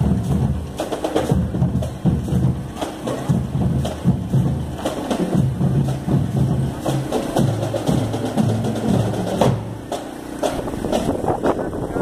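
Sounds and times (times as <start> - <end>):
drums beating: 0.0 - 12.0.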